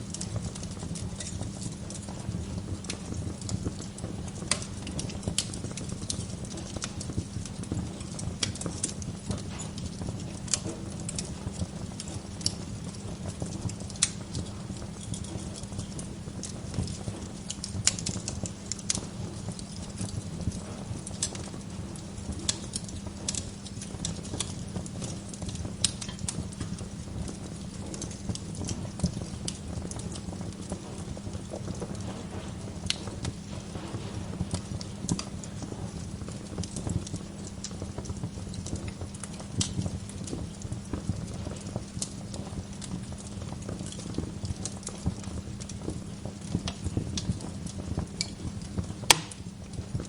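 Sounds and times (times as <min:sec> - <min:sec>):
low noise of burning fire: 0:00.0 - 0:50.0
wood fire crackling and popping: 0:00.0 - 0:50.0.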